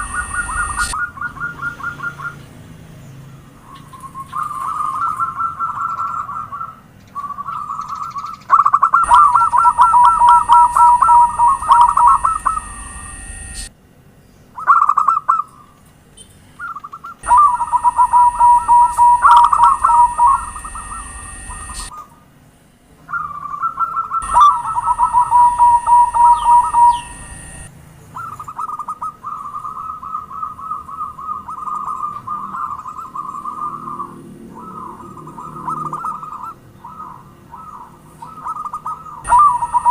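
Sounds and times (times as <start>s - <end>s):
doves cooing: 0.0s - 2.4s, 3.6s - 13.7s, 16.6s - 22.0s, 23.1s - 39.9s.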